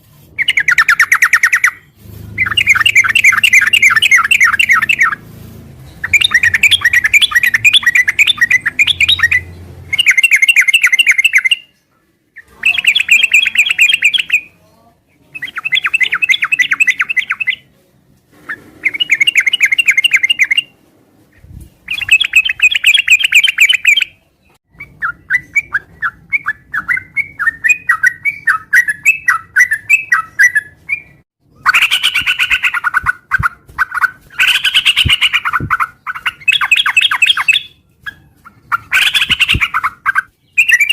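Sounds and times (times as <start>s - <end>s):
bulbul rapid chattering song: 0.4s - 5.3s, 5.9s - 11.8s, 12.4s - 14.6s, 15.3s - 17.7s, 18.8s - 20.7s, 21.8s - 40.9s.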